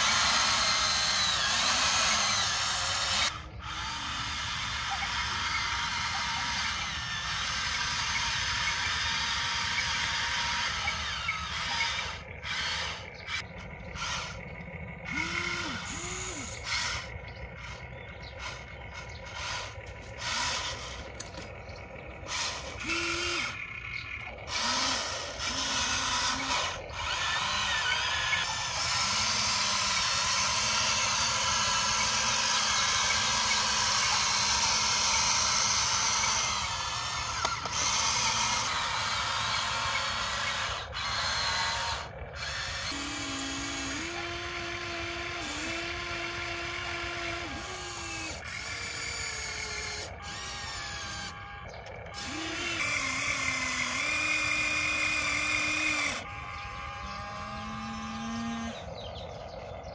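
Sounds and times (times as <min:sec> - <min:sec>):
small electric motors whining: 0:00.0 - 0:59.9.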